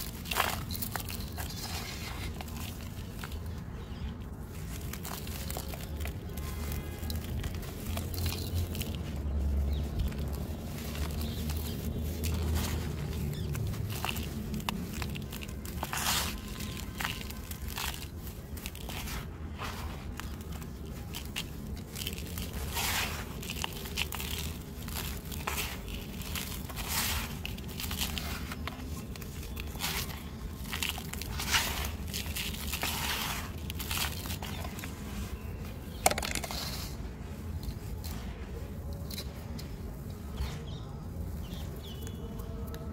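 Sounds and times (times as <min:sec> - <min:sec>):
dry mud crunching by hand: 0:00.0 - 0:42.9.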